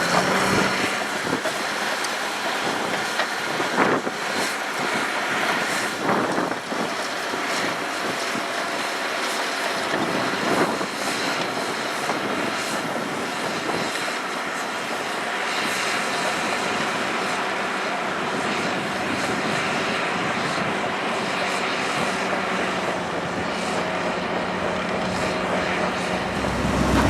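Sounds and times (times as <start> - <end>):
heavy earthmoving machine running: 0.0 - 27.0.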